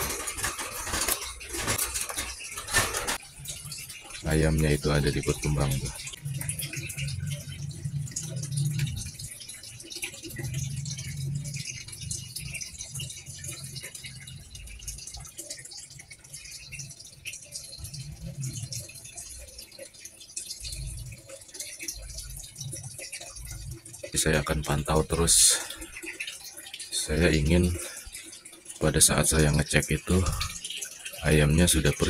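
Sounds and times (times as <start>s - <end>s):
water trickling and dripping: 0.0s - 32.0s.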